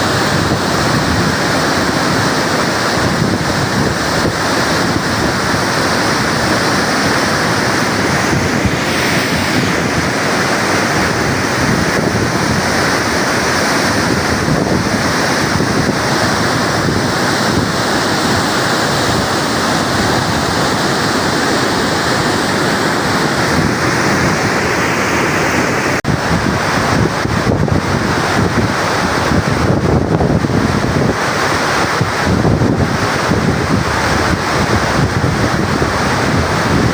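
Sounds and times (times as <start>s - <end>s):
rush of water from spillway: 0.0s - 36.9s.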